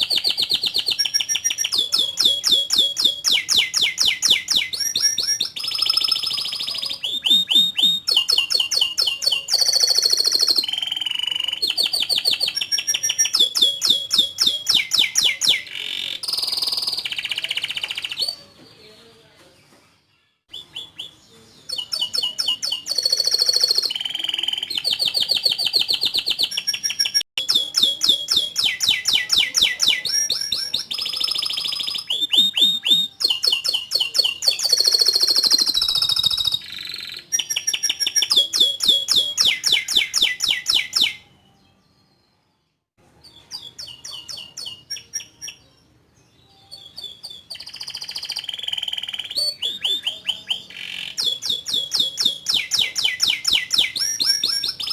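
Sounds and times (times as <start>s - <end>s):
canary singing trills: 0.0s - 19.1s, 20.5s - 42.3s, 43.2s - 54.9s.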